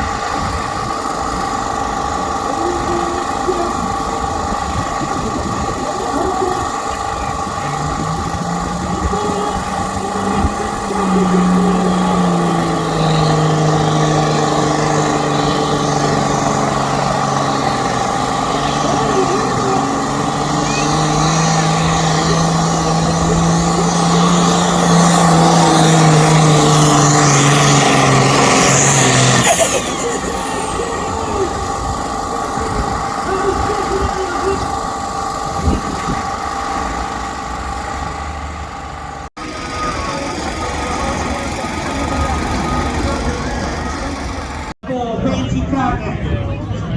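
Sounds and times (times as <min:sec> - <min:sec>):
tractor engine running under load: 0:00.0 - 0:46.9.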